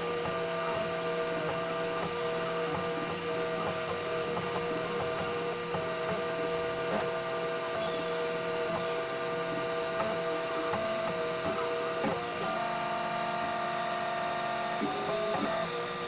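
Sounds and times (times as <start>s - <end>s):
stepper motors whining: 0.0s - 16.0s
small clicks of printer: 0.2s - 16.0s.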